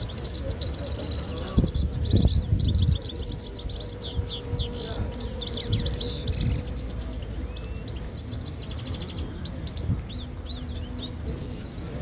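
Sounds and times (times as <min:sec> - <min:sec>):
goldfinches singing: 0:00.0 - 0:12.0.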